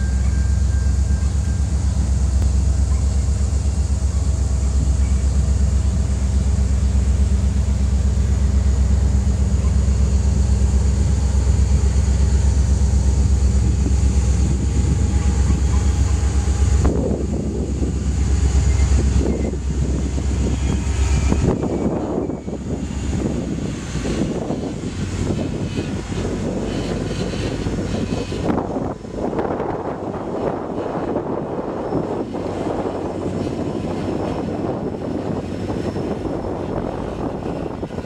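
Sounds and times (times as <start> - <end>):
diesel locomotive engines rumbling: 0.0 - 38.0.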